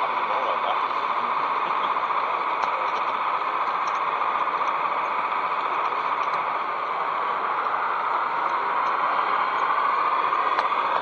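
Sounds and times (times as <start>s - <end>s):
model train whirring: 0.0s - 11.0s.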